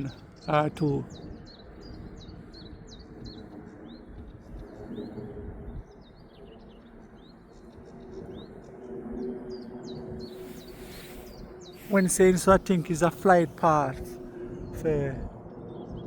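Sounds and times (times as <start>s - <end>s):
small birds chirping: 0.0s - 15.1s
distant aeroplane drone: 0.0s - 16.0s.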